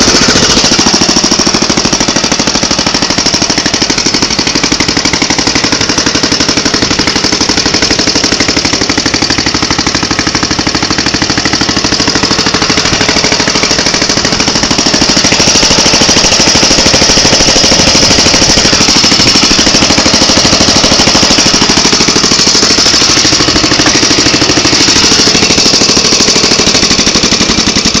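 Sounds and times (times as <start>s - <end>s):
stationary engine running: 0.0s - 28.0s.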